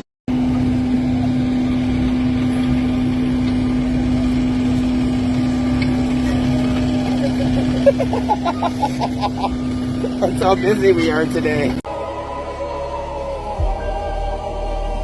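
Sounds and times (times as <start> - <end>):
engine droning hum: 0.3 - 15.0.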